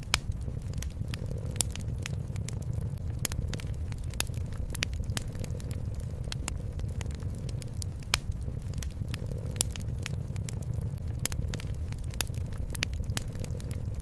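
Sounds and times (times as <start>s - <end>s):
fireplace crackling: 0.0s - 14.0s
low rumble: 0.0s - 14.0s.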